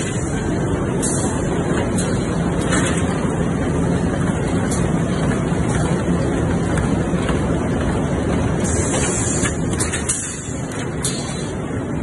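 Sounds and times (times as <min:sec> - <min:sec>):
factory machine mechanical din: 0:00.0 - 0:12.0.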